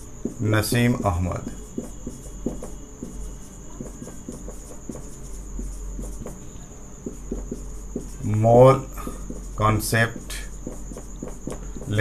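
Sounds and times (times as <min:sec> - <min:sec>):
high-pitched chirring hum: 0:00.0 - 0:12.0
marker pen writing on whiteboard: 0:00.0 - 0:12.0.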